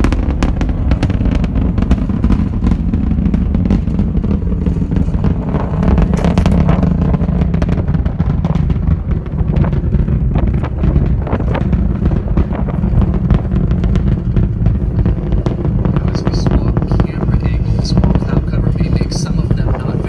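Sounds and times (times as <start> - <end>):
rocket engines rumbling and crackling: 0.0 - 20.0.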